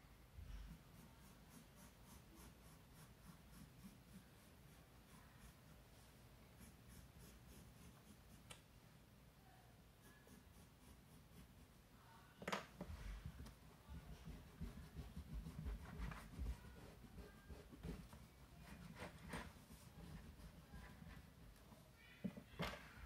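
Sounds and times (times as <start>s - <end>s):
pencil scratching on paper: 0.4s - 8.6s, 10.0s - 11.8s, 12.9s - 21.7s.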